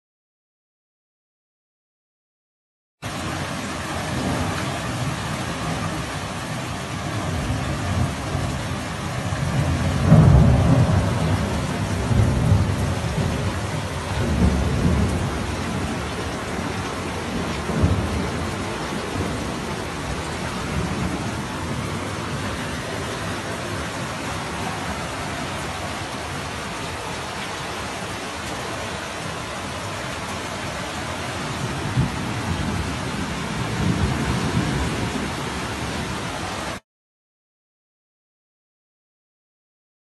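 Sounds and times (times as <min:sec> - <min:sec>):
floodwater rushing: 0:03.0 - 0:36.8
heavy rain: 0:03.0 - 0:36.8.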